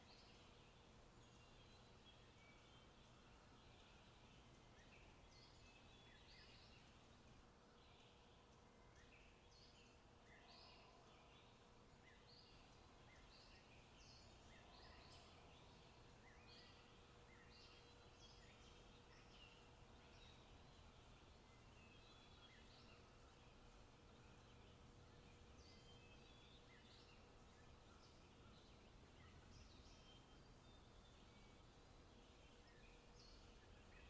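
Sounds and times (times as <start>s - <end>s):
low steady background hiss: 0.0s - 34.0s
small birds chirping: 0.0s - 34.0s.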